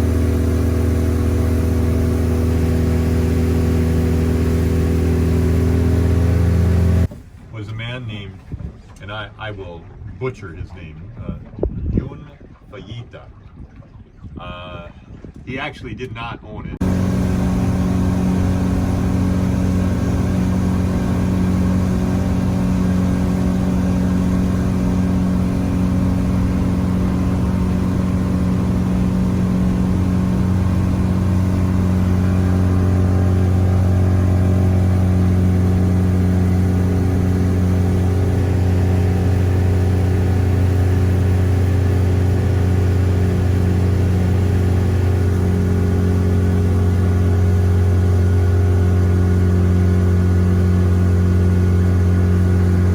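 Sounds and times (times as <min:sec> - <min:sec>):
boat motor droning: 0:00.0 - 0:07.4, 0:16.8 - 0:52.9.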